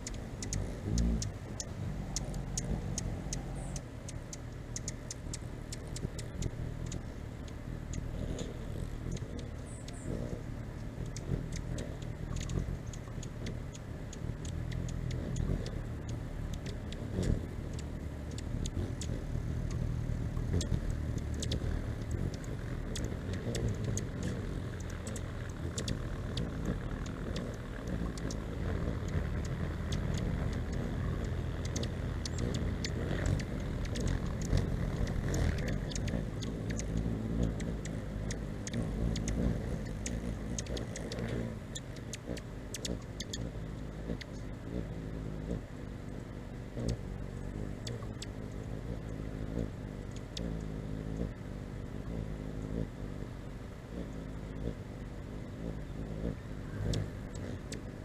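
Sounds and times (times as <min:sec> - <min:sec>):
hummingbird chip calls: 0:00.0 - 0:58.0
low steady hum: 0:00.0 - 0:58.0.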